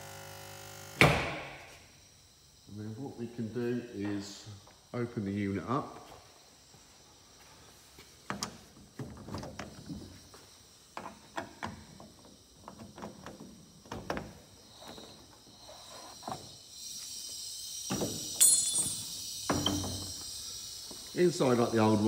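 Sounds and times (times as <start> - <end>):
steady high hiss: 1.0 - 22.0.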